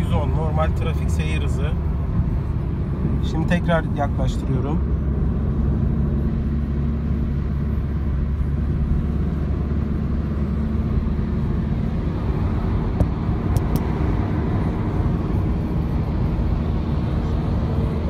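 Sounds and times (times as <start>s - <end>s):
engine and tyre drone: 0.0s - 18.0s.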